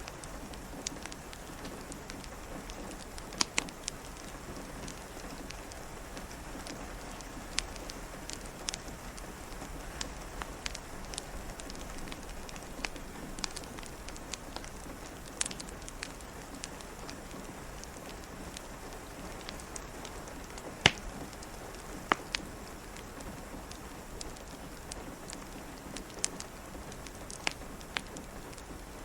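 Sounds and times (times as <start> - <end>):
rain pattering: 0.0 - 29.0
wood fire crackling and popping: 0.0 - 29.0.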